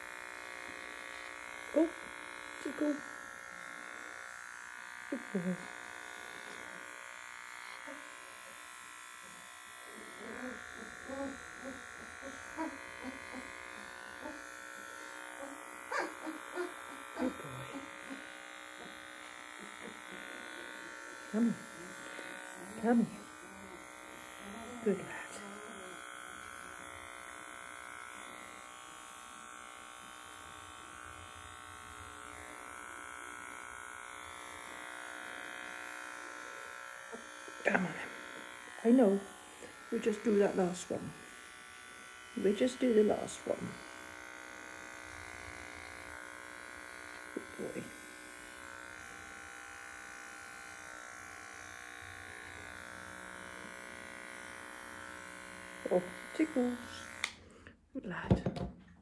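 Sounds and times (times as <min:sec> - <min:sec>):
electric clipper buzzing: 0:00.0 - 0:59.0.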